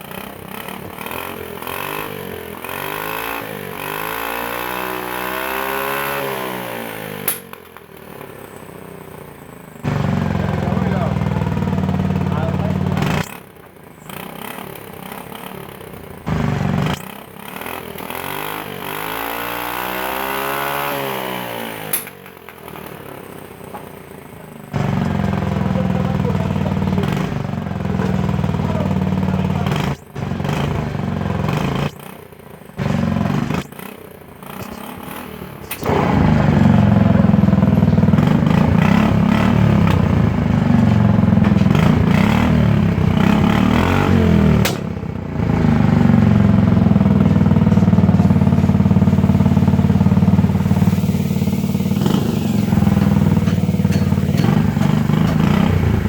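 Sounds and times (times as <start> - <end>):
scooter engine running: 0.0 - 56.0.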